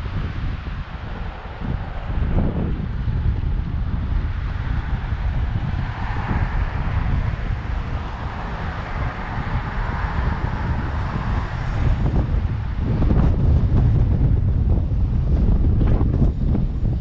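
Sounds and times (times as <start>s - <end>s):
steady rushing noise: 0.0s - 17.0s
wind buffeting microphone: 0.0s - 17.0s.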